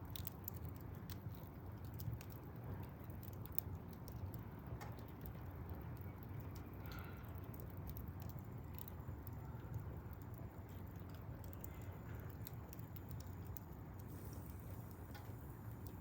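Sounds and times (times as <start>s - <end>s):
fire rumbling: 0.0s - 16.0s
wood fire crackling and popping: 0.0s - 16.0s.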